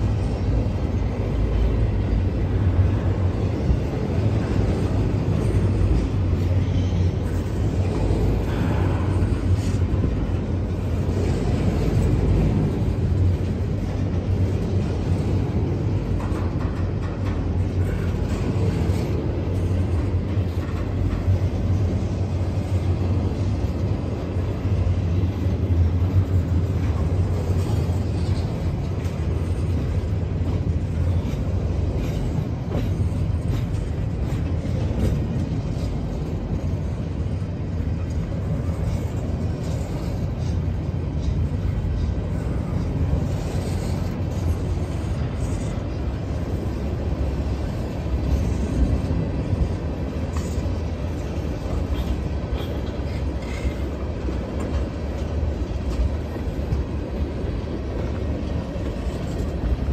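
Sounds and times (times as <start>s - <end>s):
steel wheels rumbling on rail: 0.0s - 59.9s
wheels clicking over rail joints: 0.0s - 59.9s.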